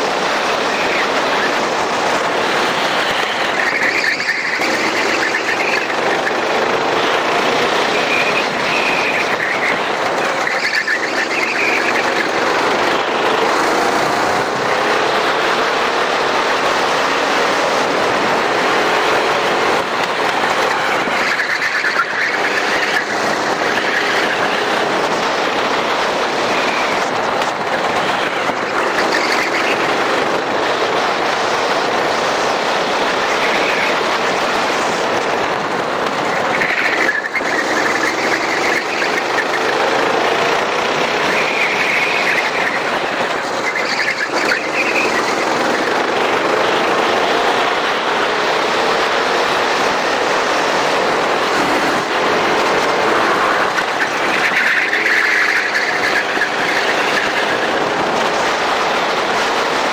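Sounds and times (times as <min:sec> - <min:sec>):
go-kart engine revving: 0:00.0 - 0:59.9
loud steady rushing noise: 0:00.0 - 0:59.9.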